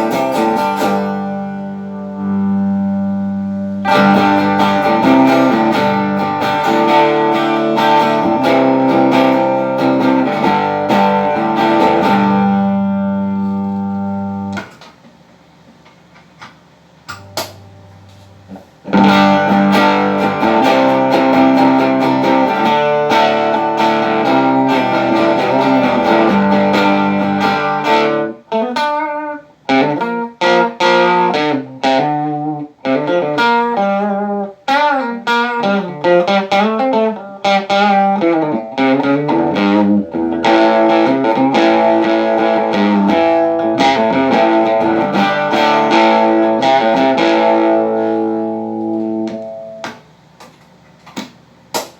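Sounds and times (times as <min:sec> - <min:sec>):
electric guitar chords and notes: 0:00.0 - 0:14.9, 0:17.1 - 0:50.6.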